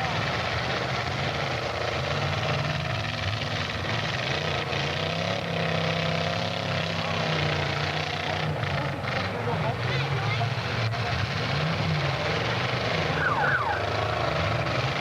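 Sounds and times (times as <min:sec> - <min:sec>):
engine revving: 0:00.0 - 0:15.0
loud unmuffled car engines: 0:00.0 - 0:15.0.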